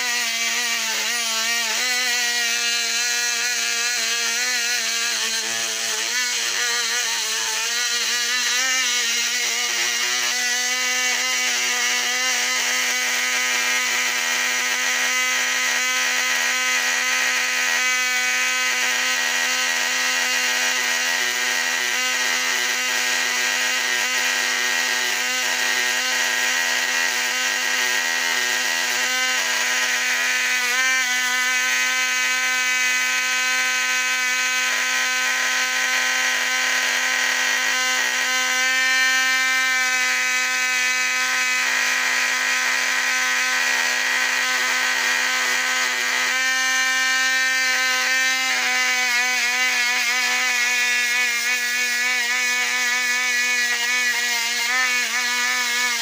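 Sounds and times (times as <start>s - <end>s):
electric motor whir and whine: 0.0s - 56.0s.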